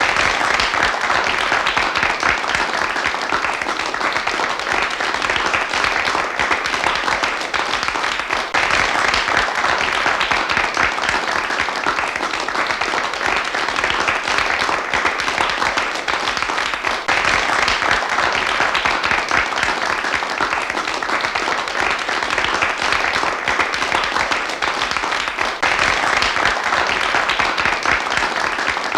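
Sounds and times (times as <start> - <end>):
crowd applause: 0.0 - 28.9.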